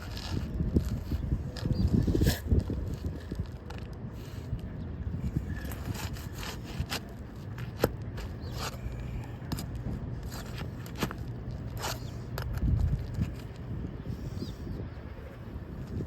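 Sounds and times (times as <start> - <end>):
shingle scraping and rubbing: 0.0 - 13.9.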